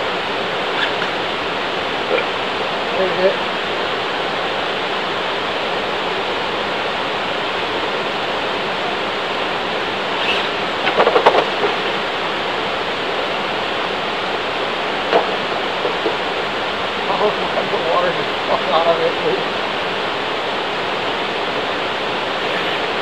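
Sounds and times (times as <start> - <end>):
waterfall cascading over rock: 0.0 - 23.0.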